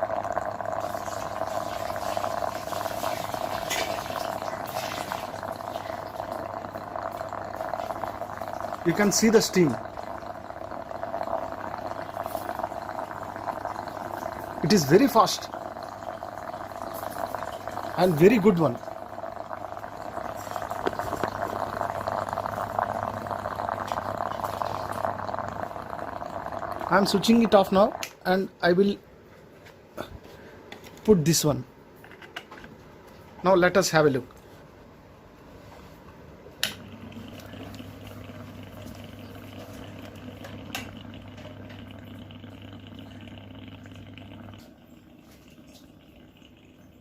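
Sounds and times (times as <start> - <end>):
steam inhaler water boiling: 0.0 - 28.8, 36.6 - 47.0
electrical hum: 0.0 - 47.0.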